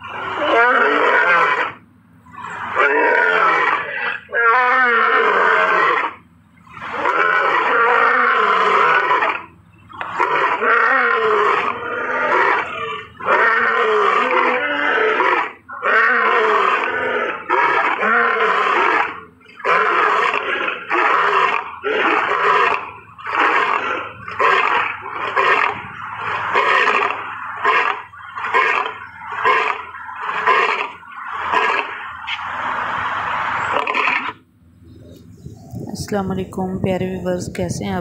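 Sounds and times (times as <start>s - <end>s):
big cat growling and roaring: 0.0s - 34.4s.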